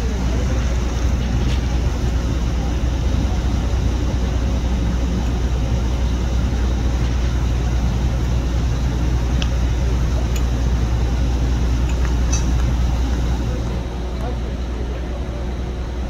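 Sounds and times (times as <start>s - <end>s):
large engine rumbling: 0.0s - 16.0s.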